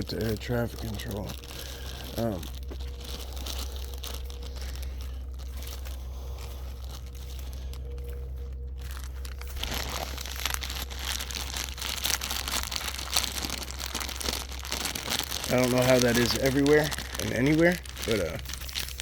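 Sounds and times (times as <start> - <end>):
footsteps crunching through dry leaves: 0.0 - 19.0
low rumble: 0.0 - 19.0.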